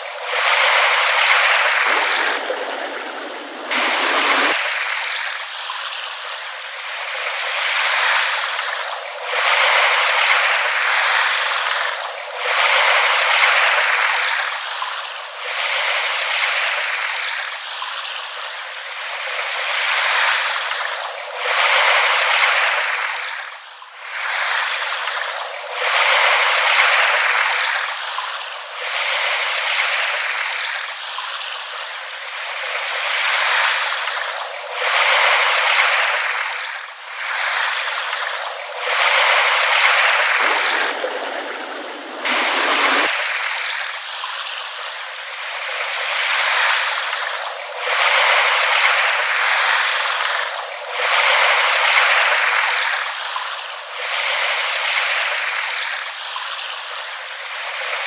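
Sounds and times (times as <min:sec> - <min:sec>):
small waves lapping: 0:00.0 - 0:58.0.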